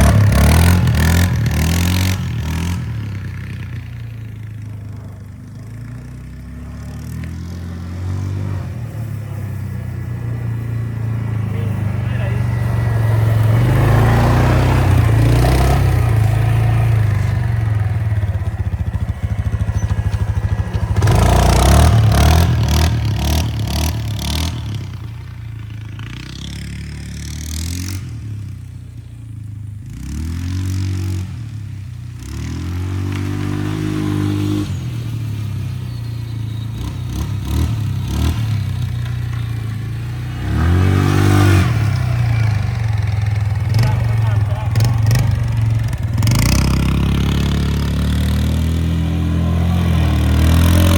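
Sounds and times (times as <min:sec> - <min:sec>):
vehicle engine revving: 0:00.0 - 0:50.9.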